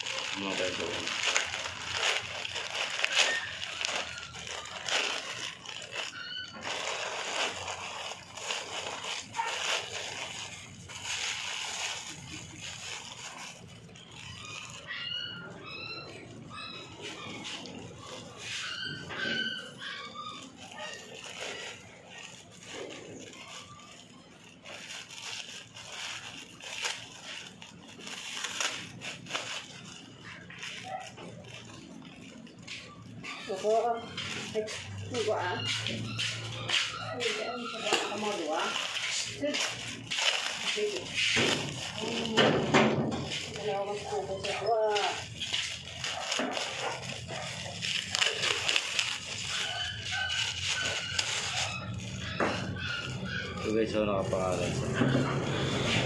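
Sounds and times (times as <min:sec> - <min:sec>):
plastic bag rustling: 0:00.0 - 0:56.0
plastic pouch crinkling: 0:00.0 - 0:56.0.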